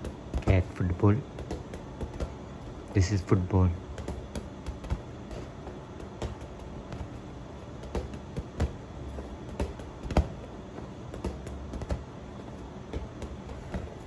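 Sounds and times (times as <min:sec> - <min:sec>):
hand patting ball: 0:00.0 - 0:14.0.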